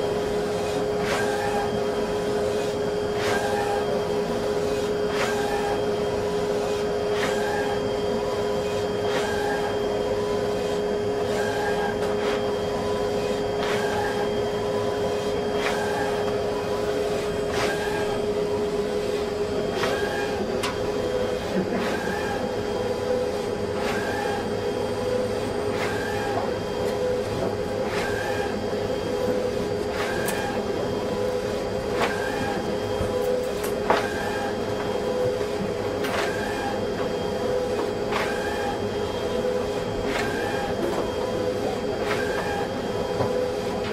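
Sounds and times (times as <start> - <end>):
printer mechanical hum: 0.0 - 43.9.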